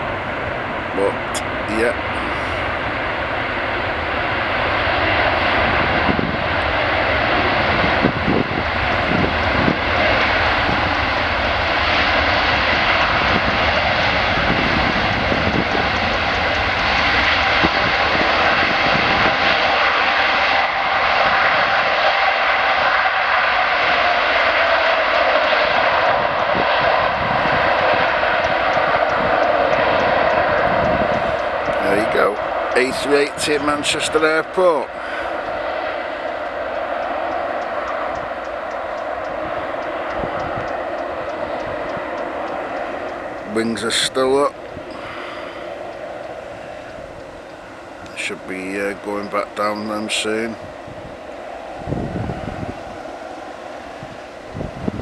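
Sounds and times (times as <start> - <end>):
engine whine falling in pitch: 0.0 - 55.0
jet engines noise: 0.0 - 55.0.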